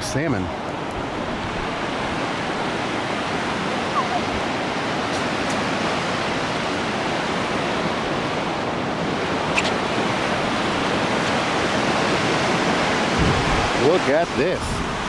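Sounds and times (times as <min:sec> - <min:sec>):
fast-flowing river water: 0:00.0 - 0:15.0
waterfall: 0:00.0 - 0:15.0.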